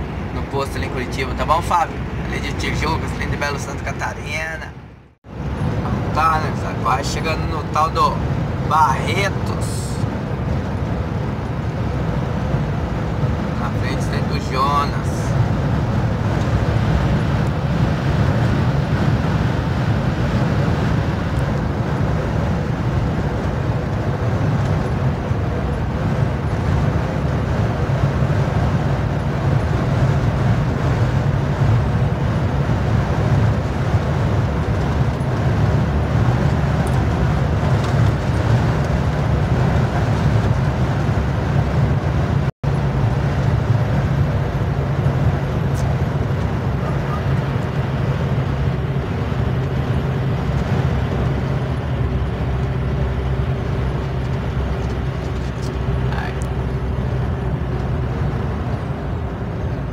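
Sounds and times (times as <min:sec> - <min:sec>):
road noise: 0:00.0 - 0:59.9
truck engine drone: 0:00.0 - 0:59.9.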